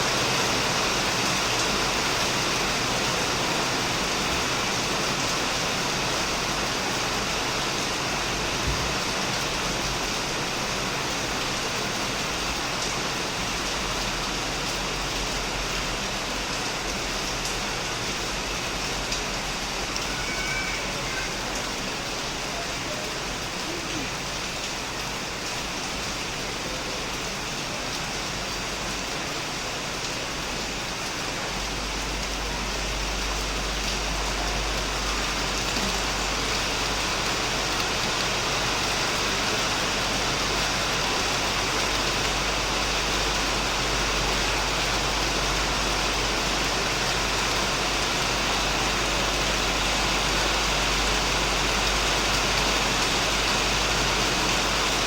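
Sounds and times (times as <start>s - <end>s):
heavy rain on a shed roof: 0.0s - 55.0s.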